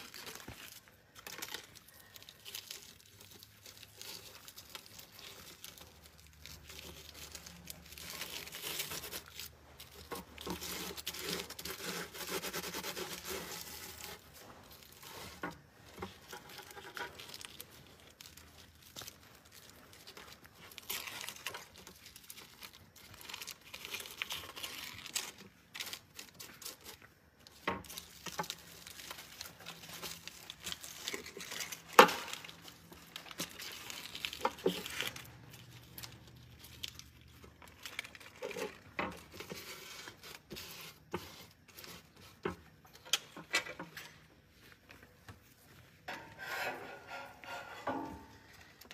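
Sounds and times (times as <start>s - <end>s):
foil crinkling and tearing: 0.0s - 46.2s, 48.4s - 48.9s.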